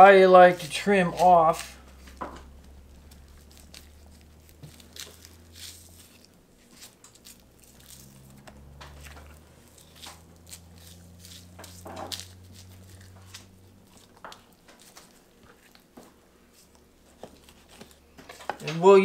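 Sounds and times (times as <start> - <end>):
steady low hum: 0.0 - 19.0
knife tearing through meat: 0.6 - 15.9.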